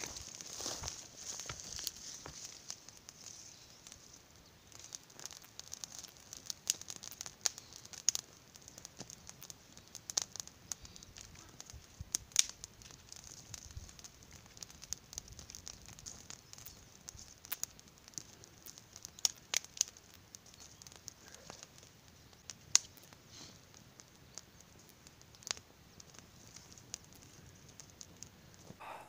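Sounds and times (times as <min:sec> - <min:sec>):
dry twigs snapping: 0:00.0 - 0:23.2, 0:24.0 - 0:28.8
campfire crackling: 0:00.0 - 0:29.0.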